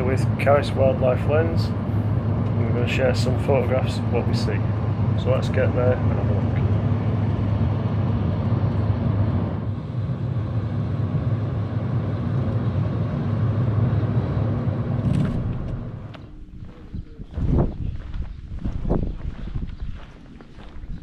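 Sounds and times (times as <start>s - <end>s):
car road and engine rumble: 0.0s - 18.4s.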